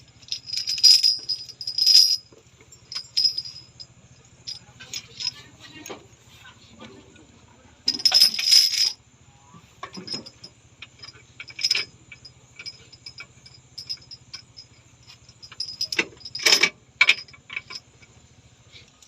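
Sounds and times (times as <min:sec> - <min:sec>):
metallic clinking and jangling: 0:00.0 - 0:06.0, 0:07.8 - 0:09.0, 0:09.8 - 0:18.2.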